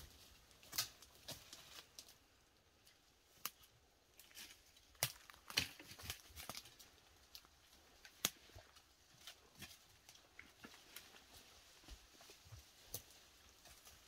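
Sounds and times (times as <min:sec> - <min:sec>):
faint crackles and snaps: 0:00.1 - 0:14.0.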